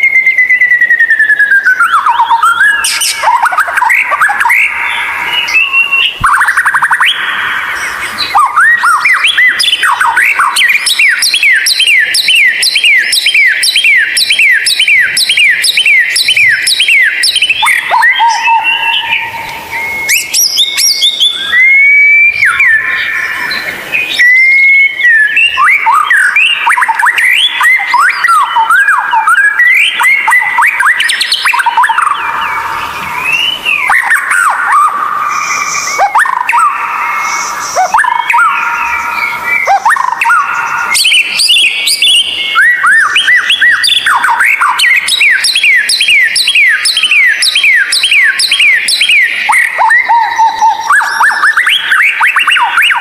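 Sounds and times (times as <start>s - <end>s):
bird singing loudly: 0.0s - 53.0s.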